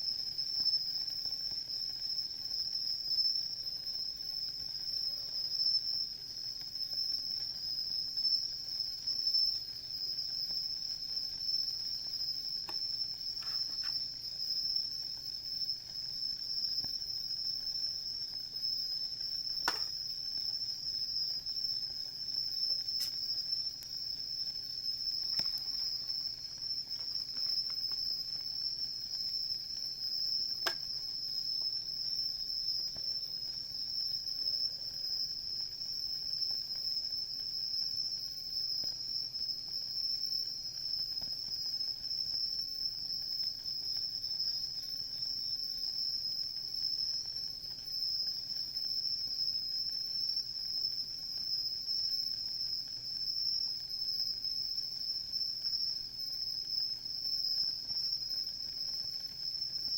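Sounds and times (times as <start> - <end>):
insects trilling: 0.0 - 59.9
campfire crackle: 0.2 - 53.9.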